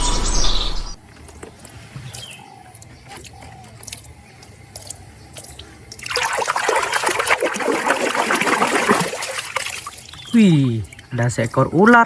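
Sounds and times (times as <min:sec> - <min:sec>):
water running and splashing: 0:01.2 - 0:12.0.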